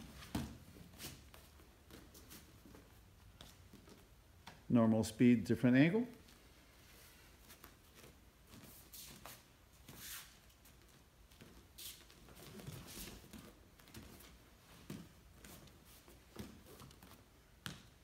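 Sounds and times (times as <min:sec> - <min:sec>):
bare feet padding on mats: 0:00.0 - 0:04.7, 0:06.2 - 0:18.0.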